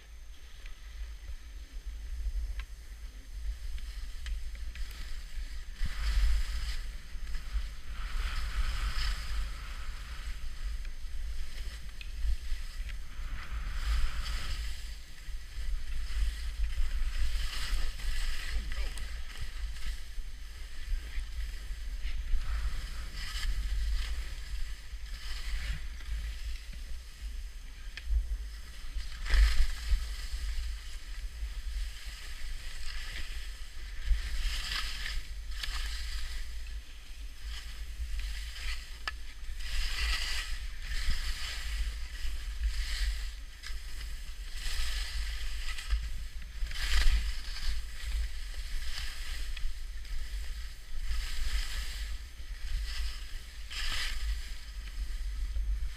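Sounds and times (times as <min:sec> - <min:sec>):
wind rumbling on microphone: 0:00.0 - 0:55.9
skis scraping over snow: 0:00.1 - 0:55.9.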